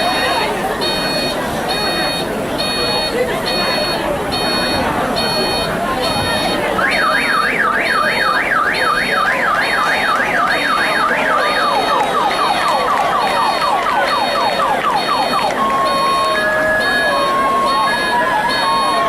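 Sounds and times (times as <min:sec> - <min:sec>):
high electronic beeps: 0:00.2 - 0:19.0
electronic siren cycling tones: 0:00.9 - 0:19.0.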